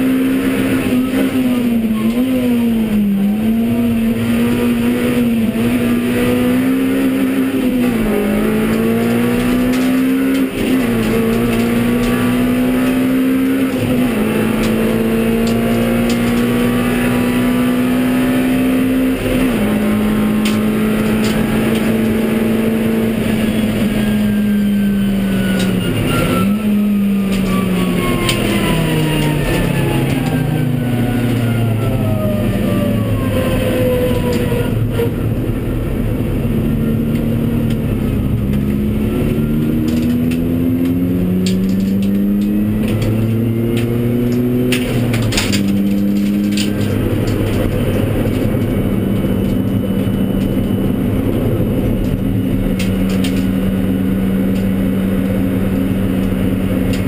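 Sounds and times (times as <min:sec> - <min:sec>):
car engine revving hard: 0:00.0 - 0:57.0
gear changes: 0:00.0 - 0:57.0.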